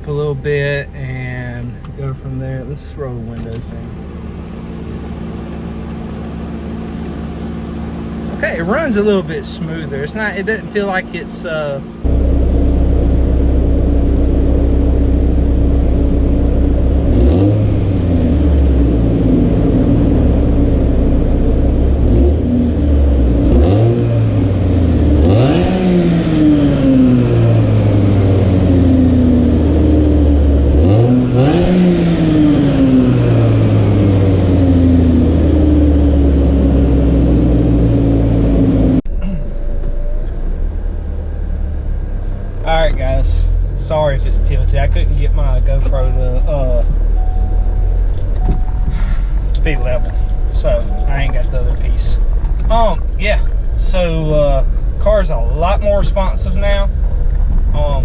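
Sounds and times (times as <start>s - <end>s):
car engine idling and revving: 0.0s - 58.0s
supercharger whine: 0.0s - 58.0s.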